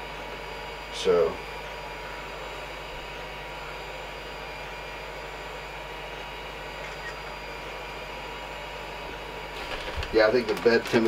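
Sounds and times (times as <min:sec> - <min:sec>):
faint constant high tones: 0:00.0 - 0:10.8
three d printer cooling fans whirring: 0:00.0 - 0:11.0.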